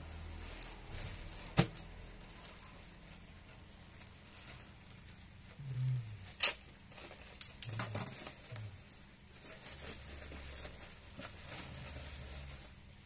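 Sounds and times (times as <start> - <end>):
plastic bag crinkling: 0.0 - 5.4, 6.1 - 13.0.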